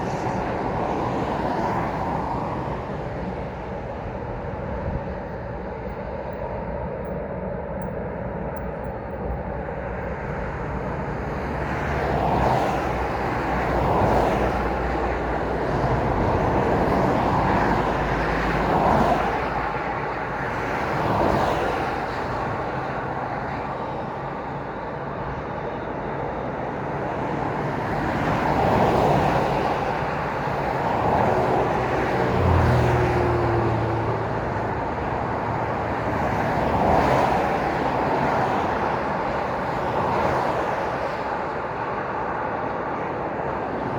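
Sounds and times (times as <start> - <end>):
vehicles passing: 0.0 - 7.0, 8.5 - 43.9
low engine hum: 0.0 - 43.9.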